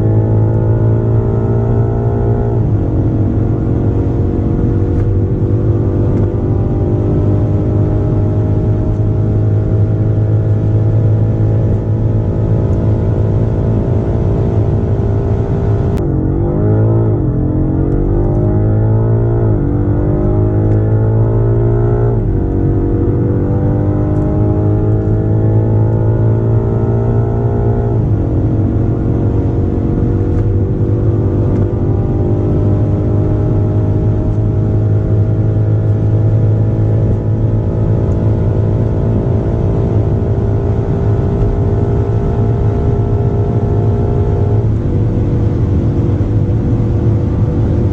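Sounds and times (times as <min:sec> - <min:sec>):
car engine accelerating hard: 0:00.0 - 0:47.9.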